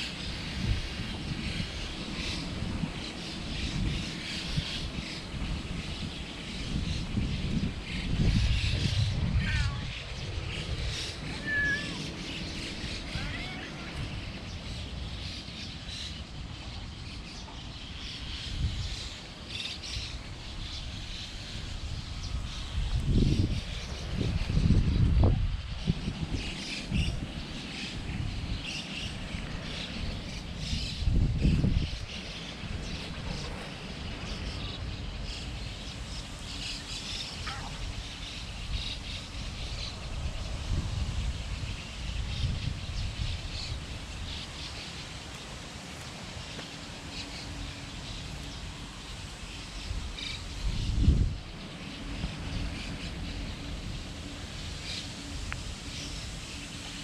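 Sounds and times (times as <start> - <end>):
outdoor background noise: 0.0 - 57.0
small birds chirping: 0.0 - 57.0.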